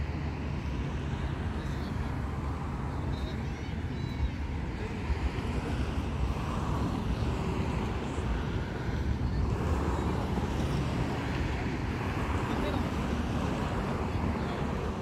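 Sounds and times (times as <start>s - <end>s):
faint distant voices: 0.3s - 15.0s.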